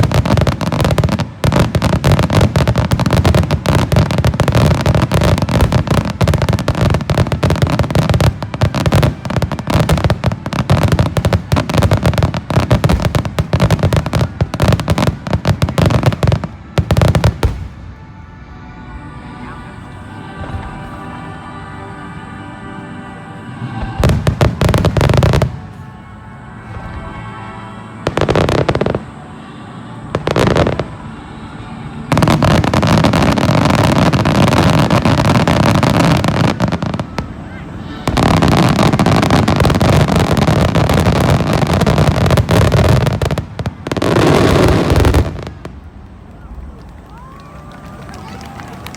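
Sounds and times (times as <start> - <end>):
fireworks booms and crackling: 0.0 - 18.2, 23.6 - 26.0, 26.6 - 48.9.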